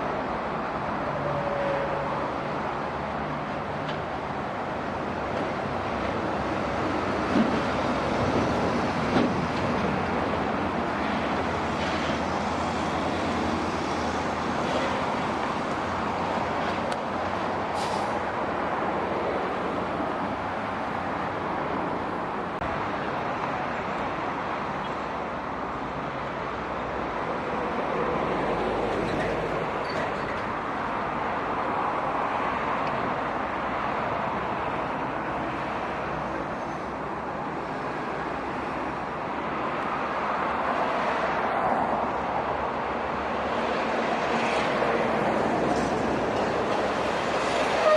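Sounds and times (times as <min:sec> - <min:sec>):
diesel trucks driving past: 0:00.0 - 0:47.9.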